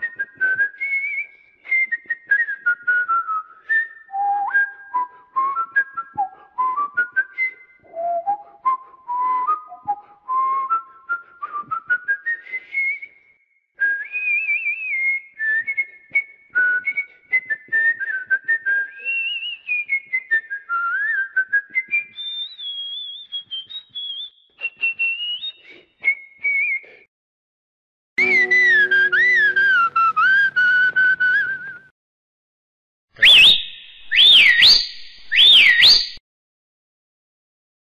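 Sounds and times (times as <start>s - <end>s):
person whistling a tune: 0.0s - 27.1s, 28.2s - 31.9s, 33.2s - 36.2s.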